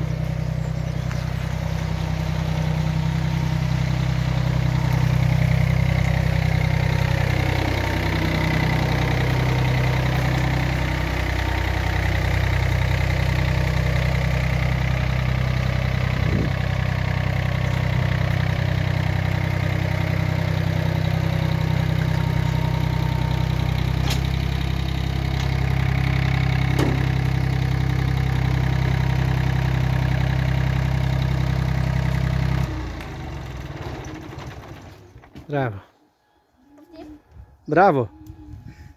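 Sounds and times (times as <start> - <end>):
tractor diesel engine running: 0.0 - 35.8.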